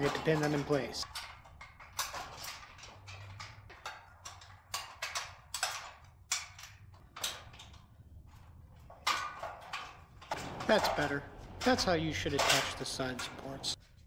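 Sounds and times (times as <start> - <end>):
metal scaffolding clicking and knocking: 0.0 - 14.0.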